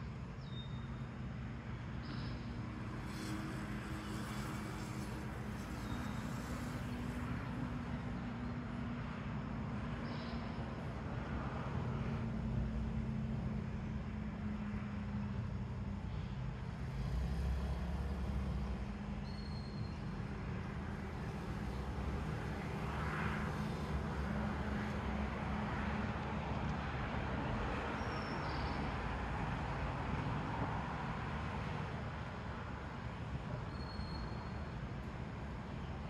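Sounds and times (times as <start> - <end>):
distant city traffic rumble: 0.0 - 36.0.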